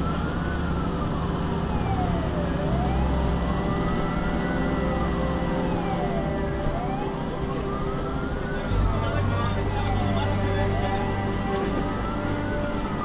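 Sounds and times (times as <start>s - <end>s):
fire engine siren wailing: 0.0s - 13.0s
truck engine hum: 0.0s - 13.0s.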